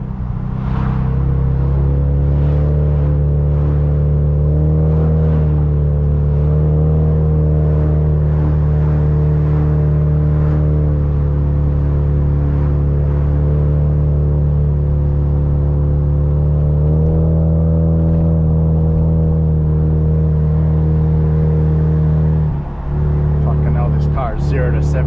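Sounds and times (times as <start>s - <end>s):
car engine droning from inside cabin: 0.0s - 25.0s.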